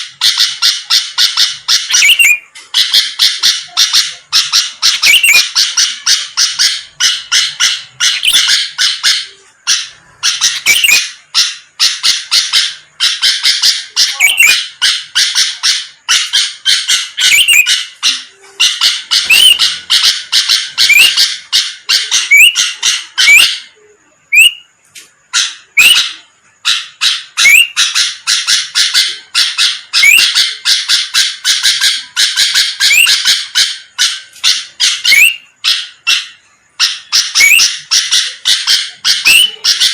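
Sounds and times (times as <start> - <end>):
bird chattering and whistling: 0.0 - 39.9.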